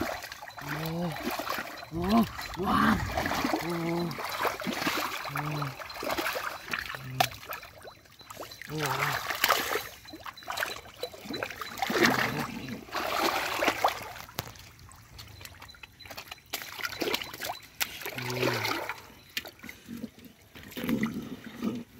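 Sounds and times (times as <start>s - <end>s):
muddy water splashing: 0.0s - 21.9s.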